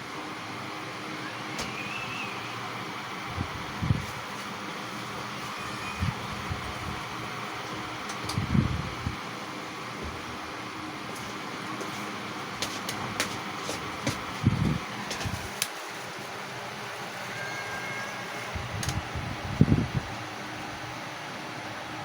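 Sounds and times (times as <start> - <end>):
fan whirring: 0.0 - 22.0.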